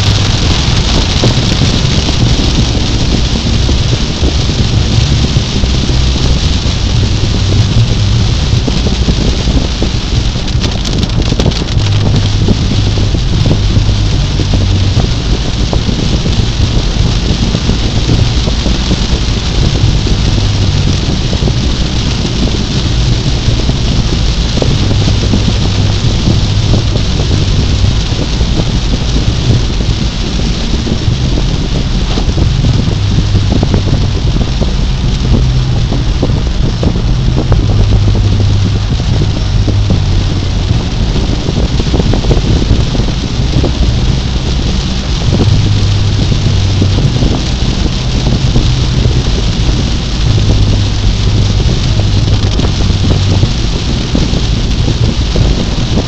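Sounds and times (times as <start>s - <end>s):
engine and road hum: 0.0s - 56.0s
heavy rain on car roof: 0.0s - 56.0s.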